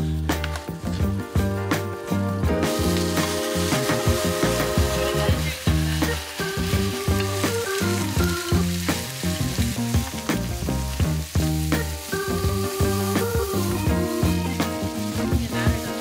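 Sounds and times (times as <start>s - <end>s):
background music: 0.0s - 16.0s
meat sizzling in frying pan: 2.4s - 16.0s.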